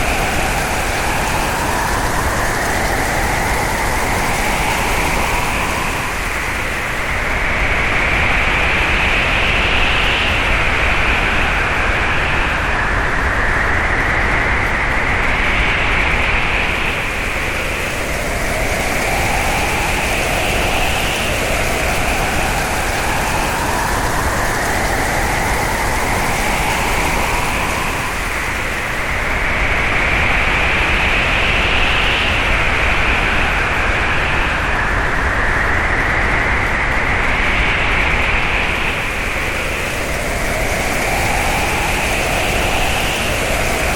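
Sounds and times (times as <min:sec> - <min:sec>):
wind howling: 0:00.0 - 0:43.9.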